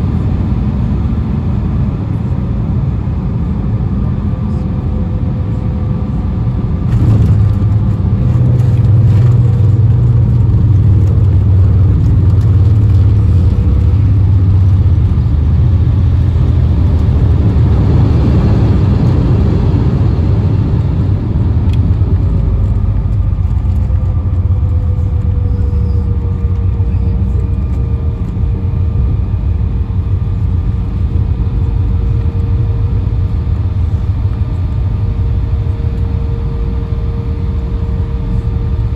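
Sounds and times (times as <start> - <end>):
jet engine rumble: 0.0 - 38.9.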